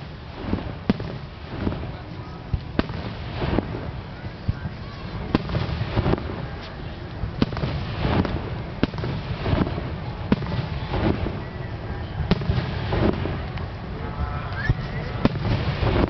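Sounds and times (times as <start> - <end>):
low rumble of launches: 0.0 - 16.0.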